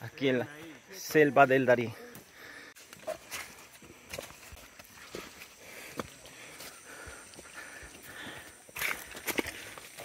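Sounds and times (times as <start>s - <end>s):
footsteps on trail: 0.0s - 10.0s.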